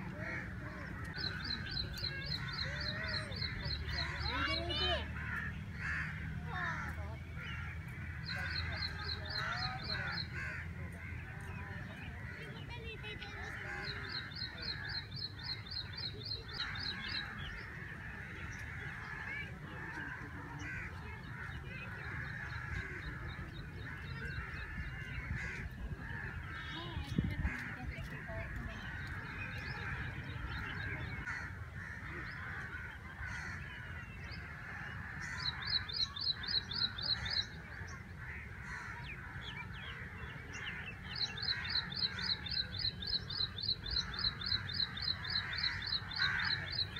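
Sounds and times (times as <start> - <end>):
dawn bird chorus: 0.0 - 46.9.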